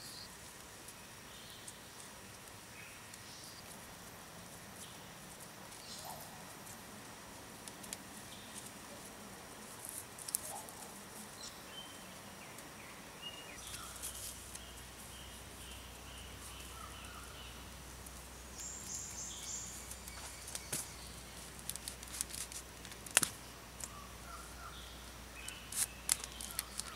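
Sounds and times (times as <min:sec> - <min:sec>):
insect hiss: 0:00.0 - 0:26.9
soft clicks and rustles: 0:00.2 - 0:12.7, 0:13.6 - 0:24.0, 0:25.0 - 0:26.9.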